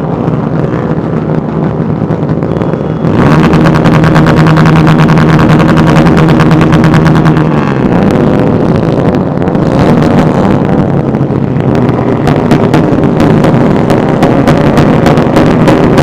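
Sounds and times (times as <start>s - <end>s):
motorcycle engines running: 0.0s - 16.0s
wind noise on microphone: 0.0s - 16.0s.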